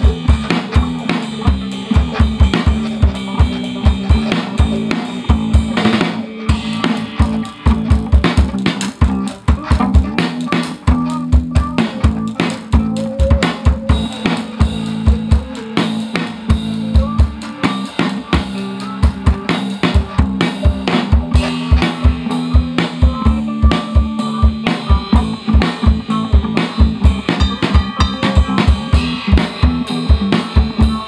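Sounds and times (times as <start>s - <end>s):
drum kit groove: 0.0s - 31.0s
electric guitar: 0.0s - 31.0s
held low notes: 0.0s - 31.0s.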